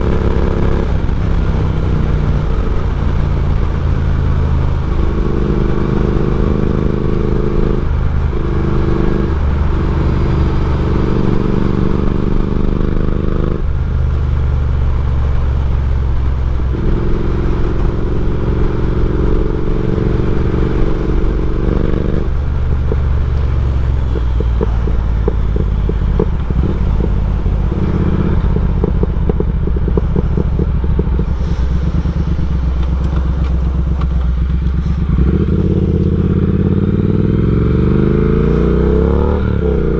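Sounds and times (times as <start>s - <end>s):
exhaust crackling: 0.0s - 39.9s
parallel-twin motorcycle engine running: 0.0s - 39.9s.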